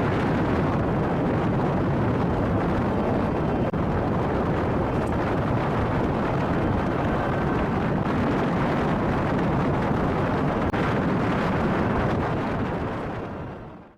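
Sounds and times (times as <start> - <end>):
jet engines rumbling: 0.0 - 13.9.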